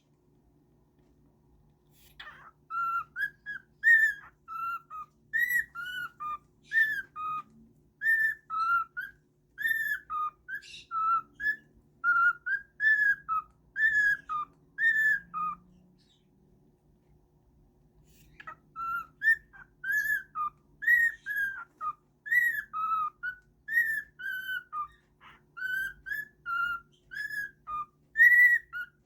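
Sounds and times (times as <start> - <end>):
bird whistling a tune: 2.1 - 16.2, 18.1 - 29.0.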